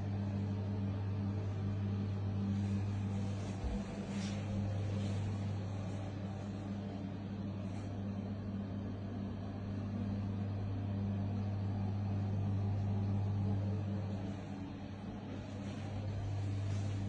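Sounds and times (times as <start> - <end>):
extractor fan humming: 0.0 - 17.0.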